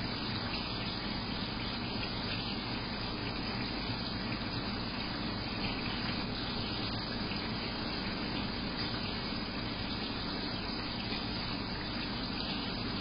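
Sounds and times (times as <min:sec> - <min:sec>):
aquarium water rushing: 0:00.0 - 0:13.0.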